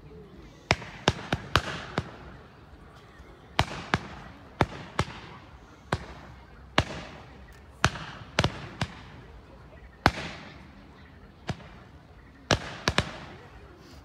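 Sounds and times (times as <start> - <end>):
fireworks bangs: 0.6 - 2.9, 3.5 - 13.7.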